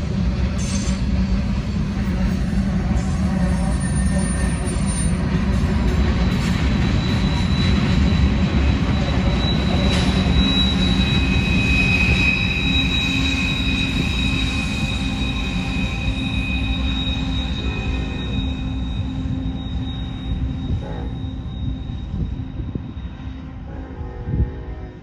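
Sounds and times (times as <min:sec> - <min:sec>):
freight train rumbling: 0:00.0 - 0:25.0
lower wheel squeal: 0:00.6 - 0:23.4
high wheel squeal: 0:00.6 - 0:23.5.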